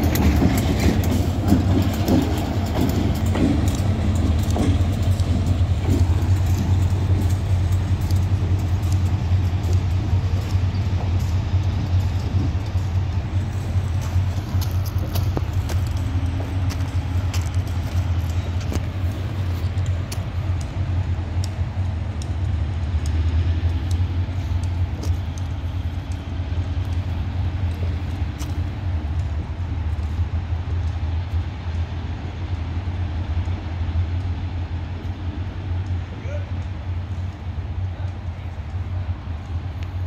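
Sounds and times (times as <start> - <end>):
diesel locomotive rumbling: 0.0 - 40.0.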